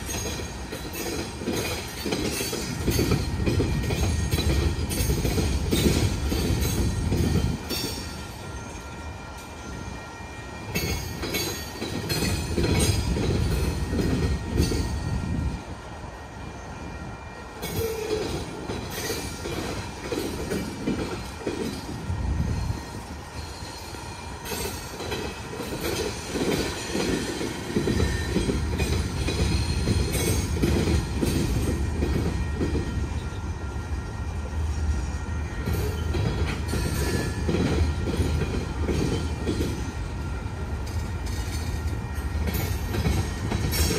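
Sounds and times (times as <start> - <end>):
freight train wheels rumbling on rail: 0.0 - 43.9
train cars clicking and clunking: 0.0 - 43.9.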